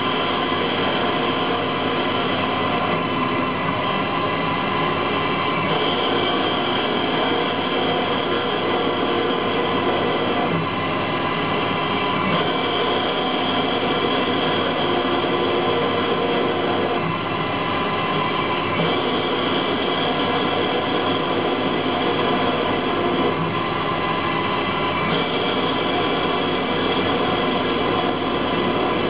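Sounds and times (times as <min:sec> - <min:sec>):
lathe motors whining: 0:00.0 - 0:29.0.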